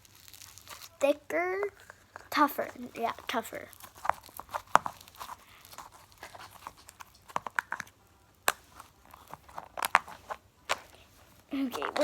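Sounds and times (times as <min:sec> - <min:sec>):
hands squishing sticky slime: 0:00.0 - 0:12.0.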